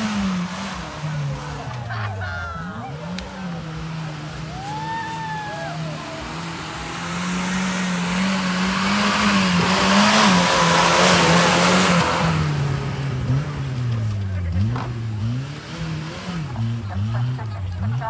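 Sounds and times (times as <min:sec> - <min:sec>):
off-road vehicle engine running: 0:00.0 - 0:18.0
tyres through mud: 0:00.0 - 0:18.0.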